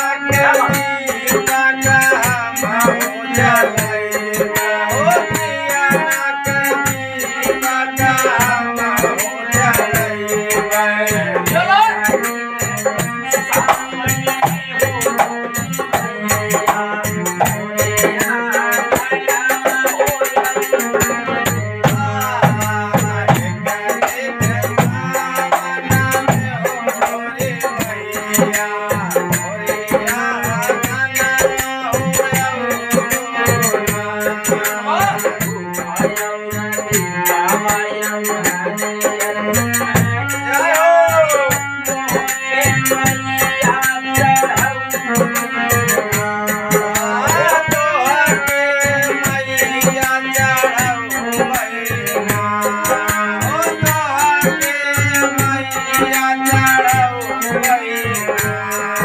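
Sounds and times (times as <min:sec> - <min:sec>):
harmonium playing chords: 0:00.0 - 0:59.0
man singing: 0:00.0 - 0:59.0.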